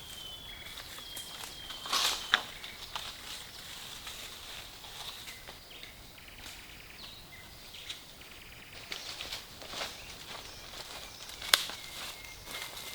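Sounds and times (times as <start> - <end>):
dry leaves and twigs crackling: 0.0 - 12.9.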